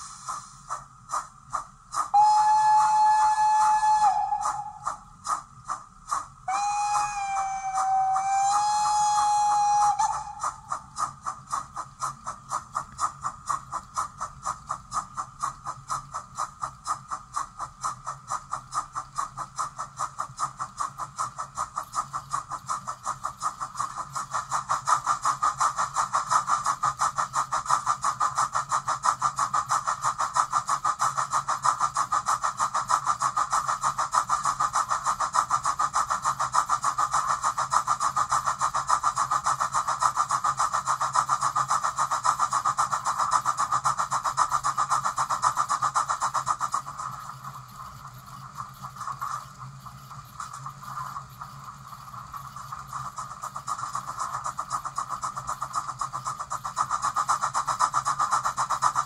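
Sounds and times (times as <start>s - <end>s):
model steam locomotive chuffing: 0.0s - 59.0s.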